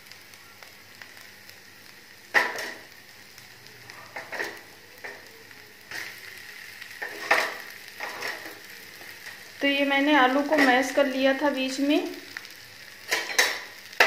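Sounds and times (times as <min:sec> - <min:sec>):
oil sizzling in a pan: 0:00.0 - 0:14.0.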